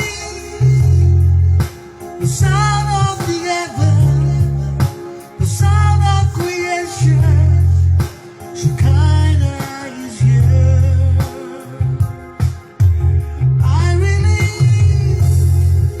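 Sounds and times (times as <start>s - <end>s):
heavy bass notes: 0.0s - 16.0s.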